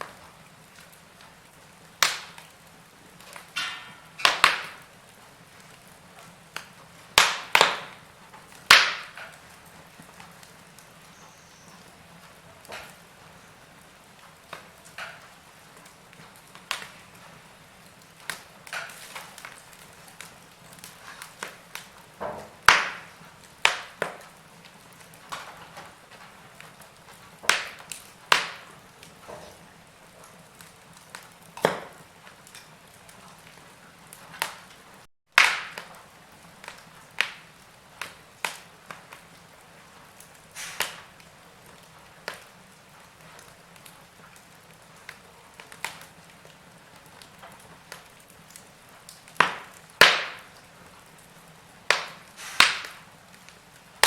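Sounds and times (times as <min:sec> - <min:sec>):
faint steady hiss: 0:00.0 - 0:35.1, 0:35.7 - 0:54.0
sharp fire pops: 0:00.0 - 0:54.0
wood fire crackling: 0:00.0 - 0:54.0.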